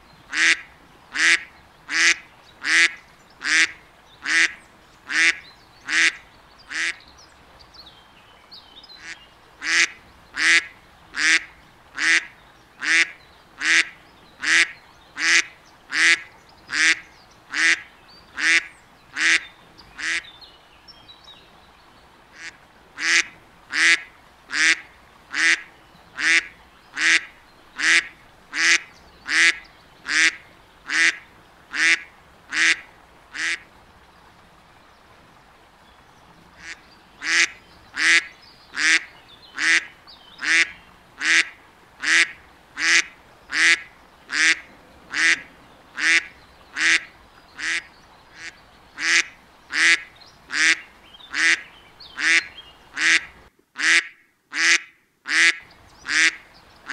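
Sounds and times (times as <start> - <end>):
duck quacking: 0.3 - 0.6, 1.2 - 7.0, 9.0 - 17.8, 18.4 - 19.4, 20.0 - 20.2, 22.4 - 33.6, 36.6 - 51.6, 52.2 - 56.9.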